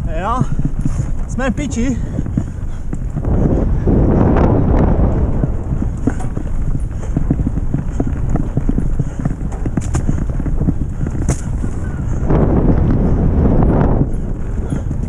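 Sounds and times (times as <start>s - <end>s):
bike rattling over rough ground: 0.0s - 15.0s.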